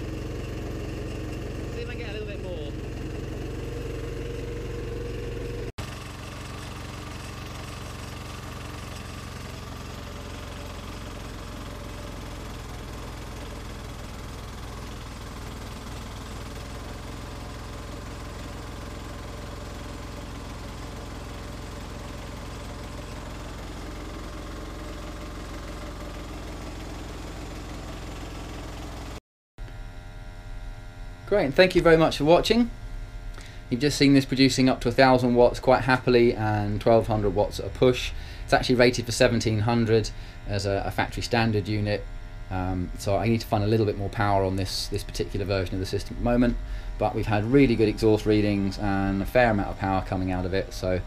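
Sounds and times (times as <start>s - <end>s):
generator engine running: 0.0s - 51.0s.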